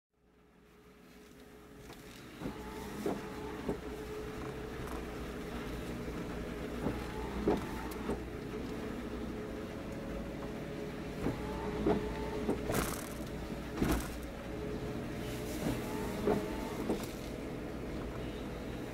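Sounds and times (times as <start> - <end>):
boat machinery hum: 0.2 - 18.9.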